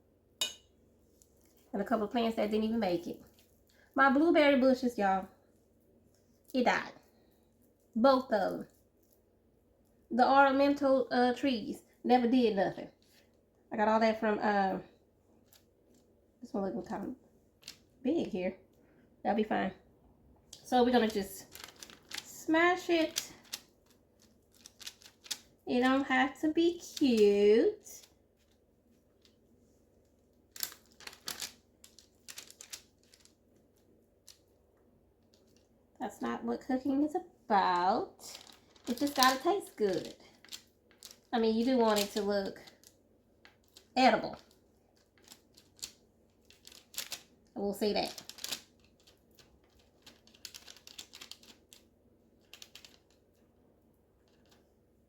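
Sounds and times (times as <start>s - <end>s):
parchment paper crinkling: 1.0s - 9.3s, 14.8s - 16.1s, 16.7s - 18.8s, 20.5s - 35.8s, 37.5s - 55.0s.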